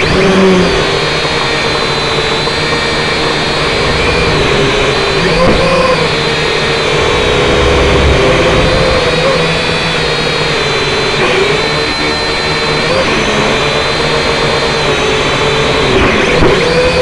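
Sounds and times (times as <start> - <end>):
toy drone motors whining: 0.0 - 17.0.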